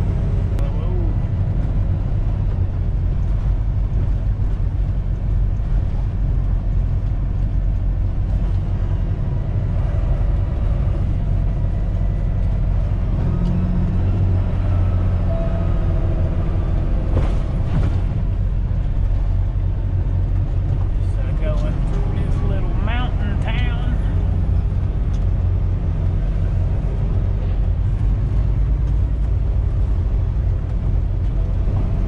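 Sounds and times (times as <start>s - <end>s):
road noise: 0.0s - 32.0s
truck diesel engine drone: 0.0s - 32.0s.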